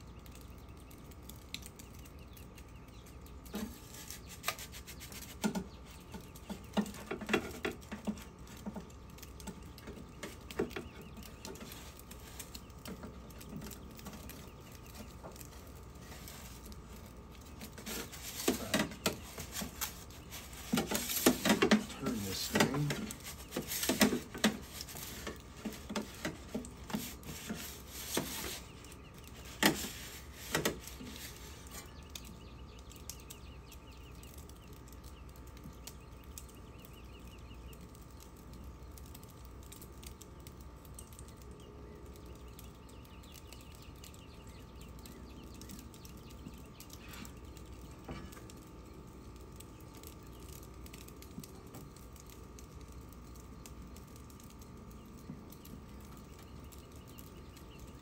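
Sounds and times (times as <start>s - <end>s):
faint bird chirps: 0.0s - 58.0s.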